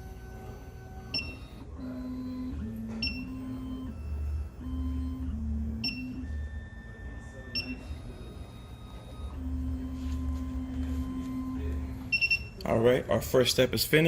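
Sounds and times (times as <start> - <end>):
key cutting machine motor whine: 0.0 - 12.6.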